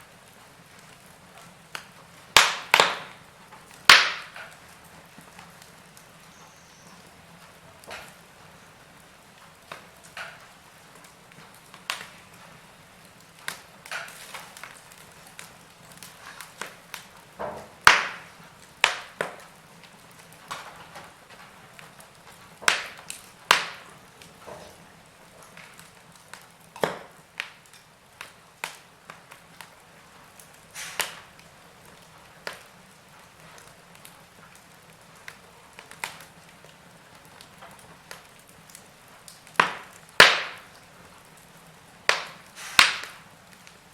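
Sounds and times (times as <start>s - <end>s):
soft fire hiss: 0.0s - 43.9s
wood fire crackling: 0.0s - 43.9s.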